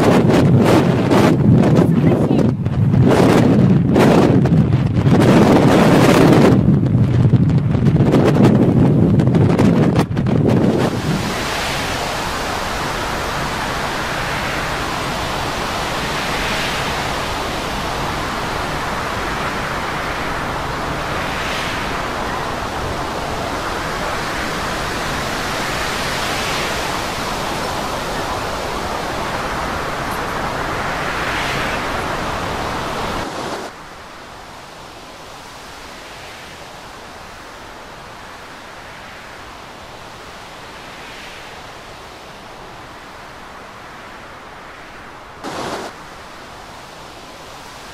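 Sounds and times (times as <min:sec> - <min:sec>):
storm wind and heavy seas: 0:00.0 - 0:47.9.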